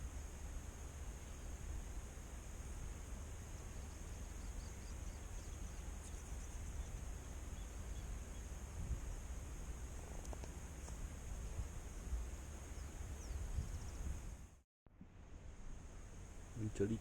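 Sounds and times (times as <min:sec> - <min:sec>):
insects droning: 0:00.0 - 0:14.5
wind rumble on microphone: 0:00.0 - 0:14.6.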